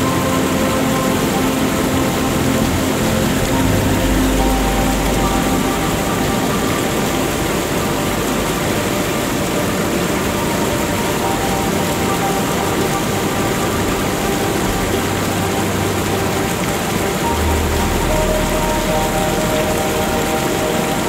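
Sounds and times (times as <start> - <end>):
faint ambient music: 0.0 - 21.0
rushing water: 0.0 - 21.0.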